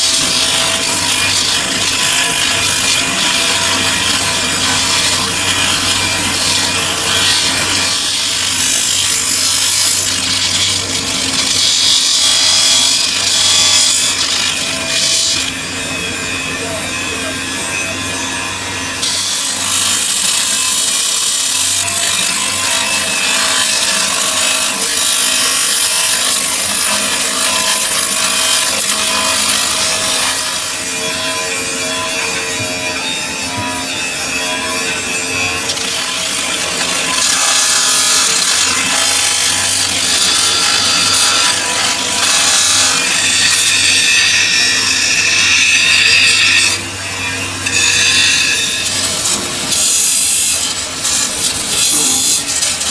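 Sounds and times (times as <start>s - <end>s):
cutting tool scraping metal: 0.0s - 52.9s
metal lathe humming: 0.0s - 52.9s.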